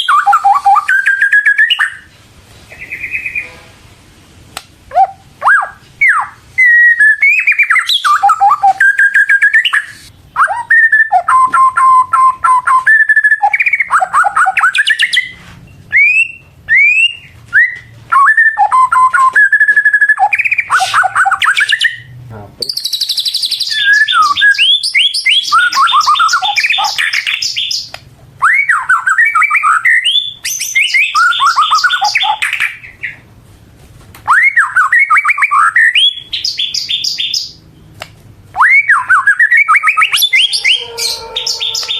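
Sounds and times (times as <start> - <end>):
songbird singing whistles: 0.0 - 2.1, 2.7 - 3.6, 5.0 - 33.2, 34.2 - 38.0, 38.6 - 41.9.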